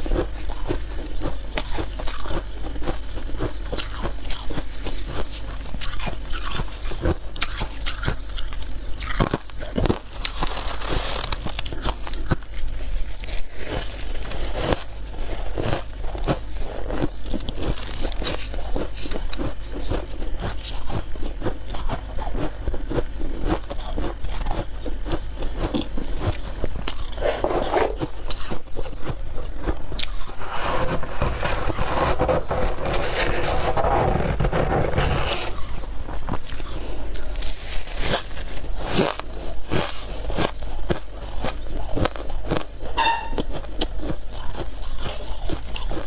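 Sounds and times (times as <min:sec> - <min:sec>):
freezer frost being scraped and crunched: 0:00.0 - 0:22.6, 0:25.6 - 0:46.0.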